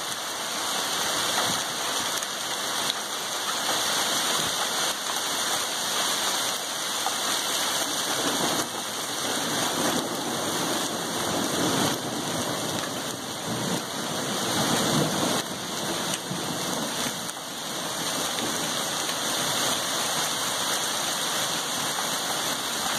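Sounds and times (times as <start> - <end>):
hail and heavy rain falling: 0.0 - 22.9.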